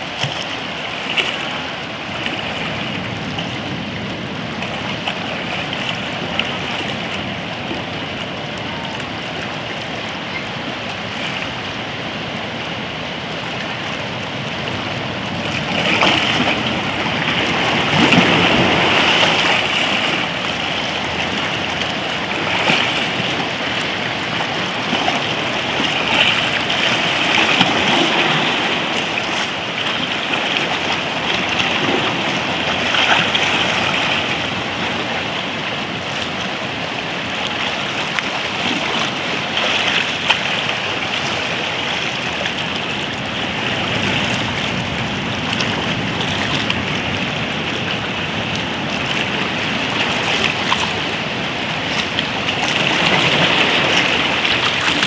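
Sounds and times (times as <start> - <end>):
waves lapping around rocks: 0.0 - 55.0.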